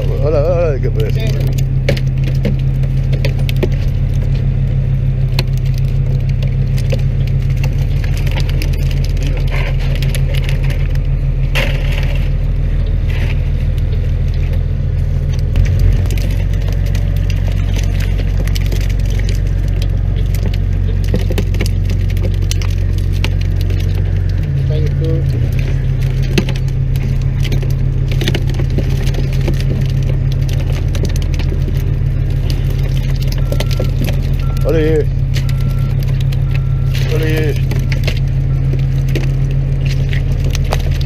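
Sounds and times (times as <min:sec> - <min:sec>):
boat motor droning: 0:00.0 - 0:41.0.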